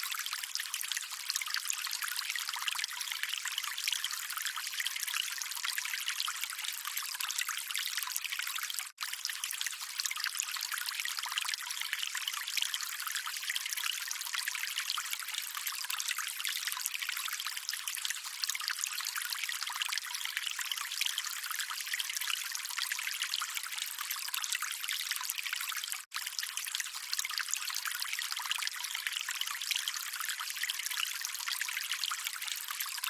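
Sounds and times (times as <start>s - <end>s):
water trickling: 0.0s - 33.0s.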